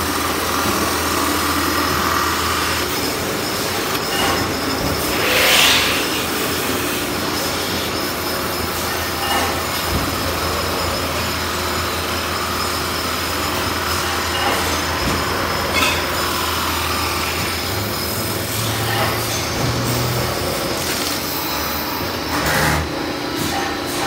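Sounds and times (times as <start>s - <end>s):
metal-spinning machine hiss and whine: 0.0s - 24.0s.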